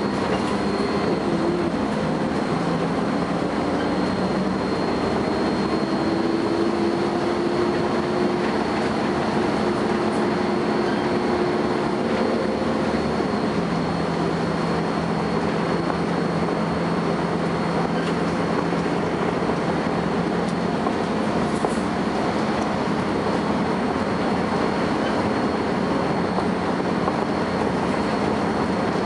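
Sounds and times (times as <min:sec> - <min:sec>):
bus engine and road rumble: 0:00.0 - 0:29.0
steady high-pitched whine: 0:00.0 - 0:29.0.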